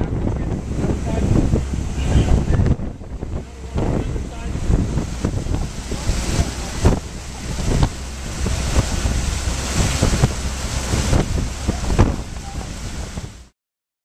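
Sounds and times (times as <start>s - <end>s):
floodwater churning and splashing: 0.0s - 13.5s
low rumble: 0.0s - 13.5s
wind buffeting microphone: 0.0s - 13.5s.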